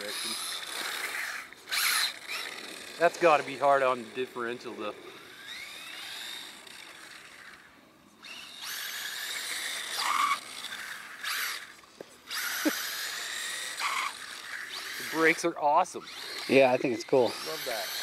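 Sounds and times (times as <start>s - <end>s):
electric toy car motor whining: 0.0s - 18.0s.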